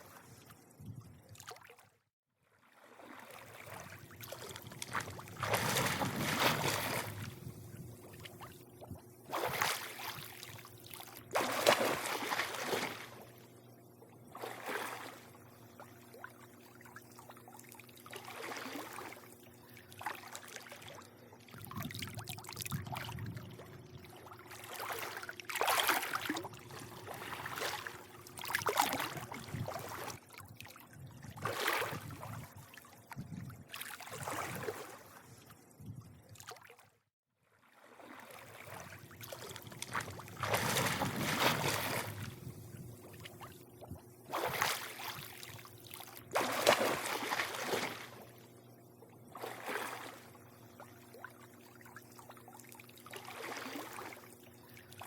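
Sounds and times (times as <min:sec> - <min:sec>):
pool water lapping and sloshing: 0:00.0 - 0:55.0
faint low hum: 0:03.4 - 0:36.5, 0:38.3 - 0:55.0.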